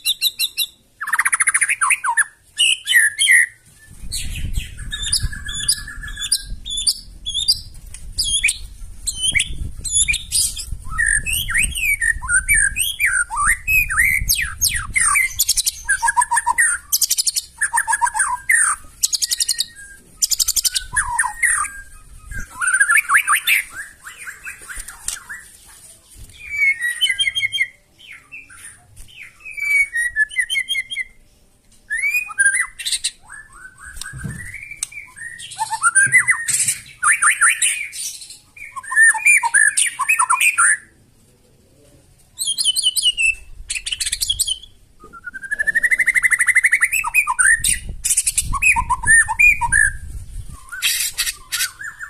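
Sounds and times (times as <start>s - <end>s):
bird singing whistled phrases: 0.0s - 25.4s, 29.2s - 31.2s, 31.9s - 40.9s, 42.4s - 52.0s.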